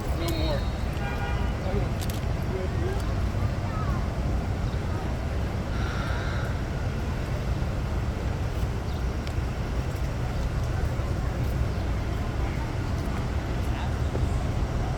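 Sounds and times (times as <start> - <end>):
traffic rumble: 0.0 - 14.9.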